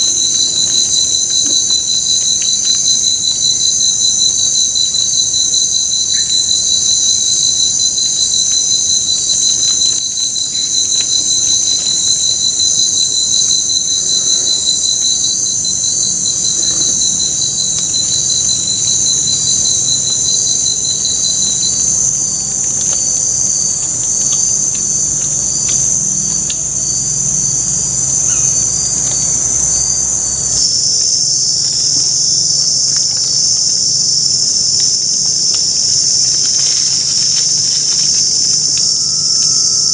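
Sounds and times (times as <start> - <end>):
insect pulsing trill: 0.0 - 39.9
chorus of insects shrilling: 5.8 - 39.9.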